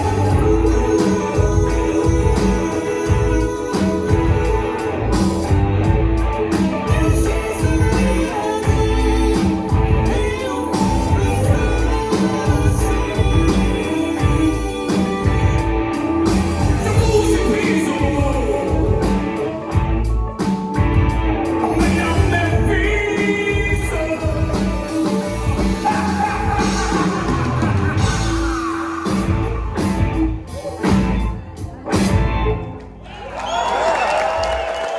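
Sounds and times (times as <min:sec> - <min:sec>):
rock band playing with singing: 0:00.0 - 0:34.9.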